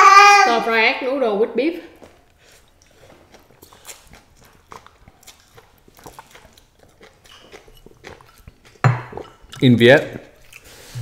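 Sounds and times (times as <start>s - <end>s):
faint chewing of noodles: 2.0s - 11.0s.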